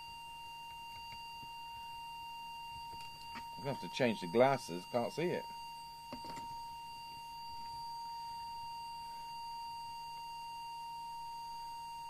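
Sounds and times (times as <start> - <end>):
steady test tone: 0.0 - 12.0.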